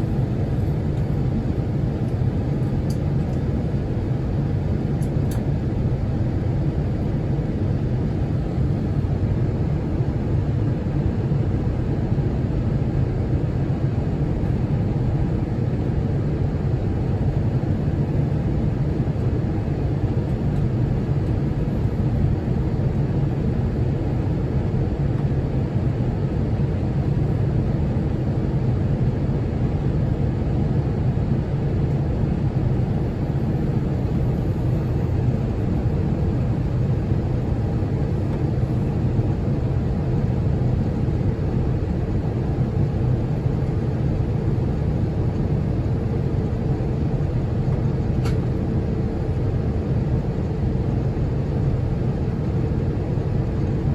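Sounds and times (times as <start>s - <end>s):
aircraft cabin rumble: 0.0s - 53.9s.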